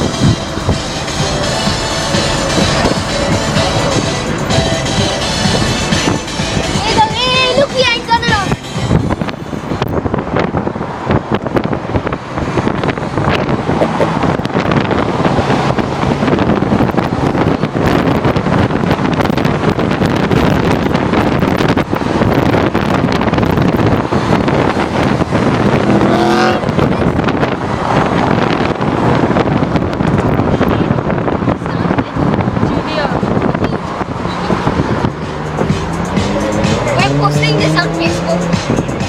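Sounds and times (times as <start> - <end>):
cars driving along a road: 0.0 - 39.0
wind buffeting microphone: 0.0 - 39.0.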